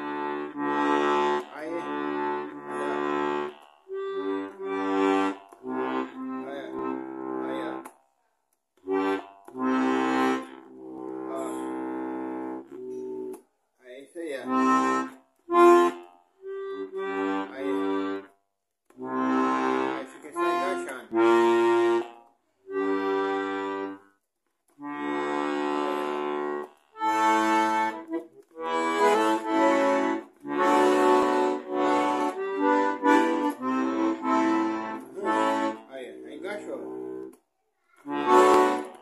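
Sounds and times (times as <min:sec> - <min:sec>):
button accordion playing chords: 0:00.0 - 0:08.2, 0:08.8 - 0:13.4, 0:14.3 - 0:37.4, 0:38.0 - 0:39.0.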